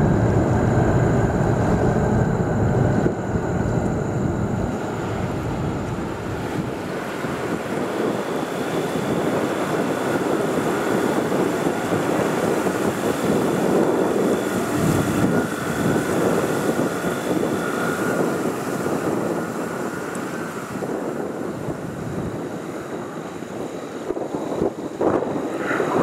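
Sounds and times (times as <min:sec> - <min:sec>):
jet engines rumbling and whining: 0:00.0 - 0:26.0.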